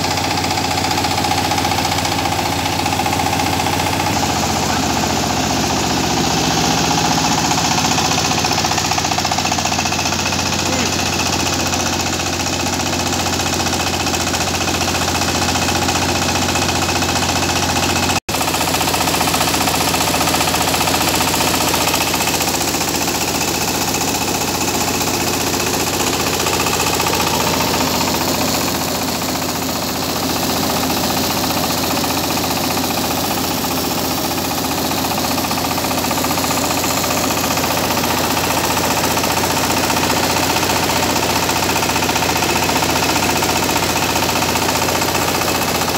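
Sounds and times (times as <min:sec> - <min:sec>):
diesel engine running under load: 0:00.0 - 0:45.9
rice huller milling: 0:00.0 - 0:45.9.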